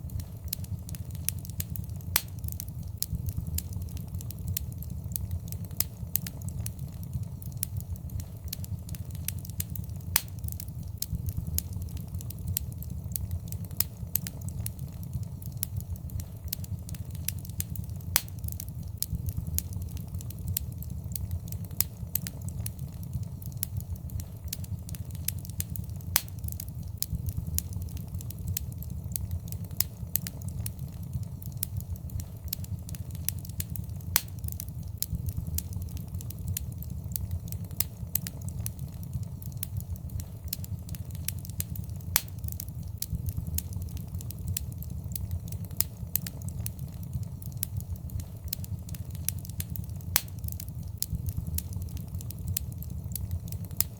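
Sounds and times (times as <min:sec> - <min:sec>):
fire pops and snaps: 0:00.0 - 0:53.9
fire rumbling: 0:00.0 - 0:53.9.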